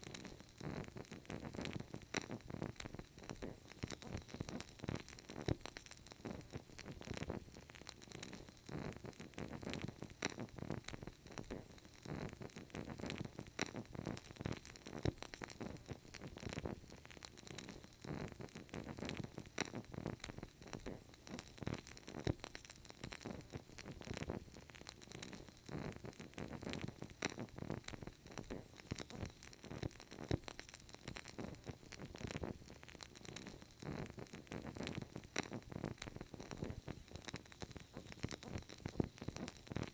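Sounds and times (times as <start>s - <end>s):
candle crackling and popping: 0.0s - 39.9s.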